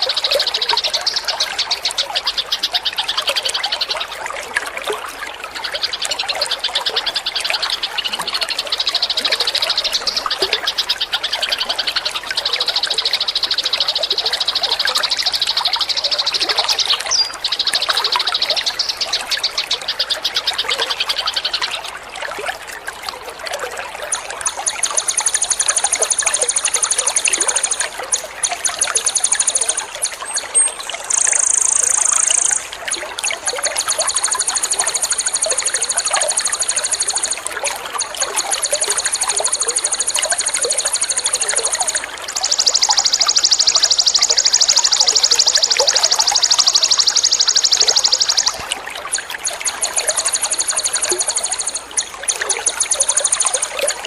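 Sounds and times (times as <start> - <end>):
songbird rapid trill: 0.0 - 22.0, 24.0 - 54.0
trickling water: 0.0 - 54.0.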